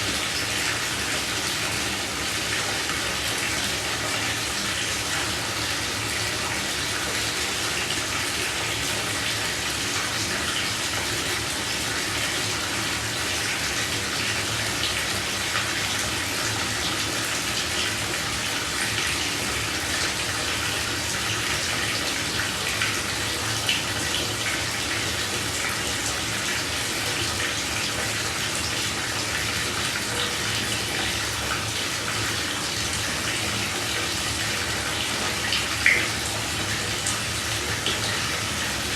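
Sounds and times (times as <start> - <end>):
shower water running: 0.0 - 38.9.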